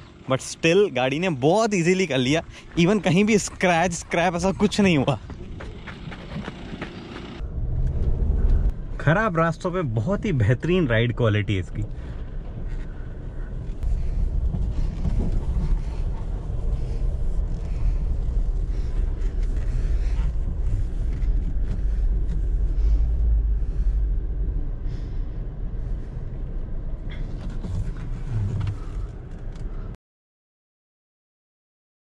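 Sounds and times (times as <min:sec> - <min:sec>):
car driving on dirt track rumble: 0:00.0 - 0:30.0.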